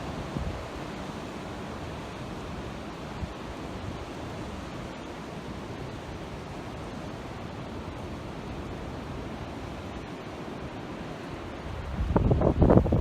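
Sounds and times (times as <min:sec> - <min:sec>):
strong wind through trees: 0:00.0 - 0:13.0
wind rumble on microphone: 0:00.0 - 0:13.0.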